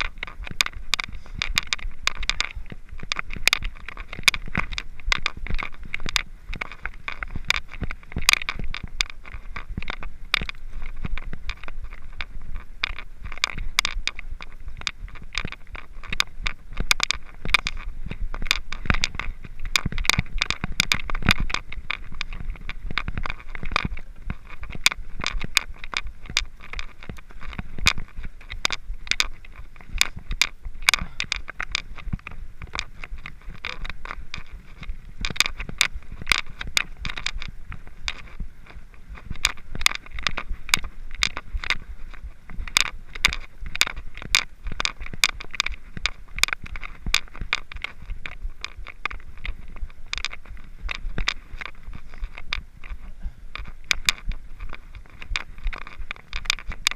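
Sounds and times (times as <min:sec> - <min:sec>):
bike clicks and rattles: 0:00.0 - 0:56.9
tyres scraping over dirt: 0:00.0 - 0:56.9.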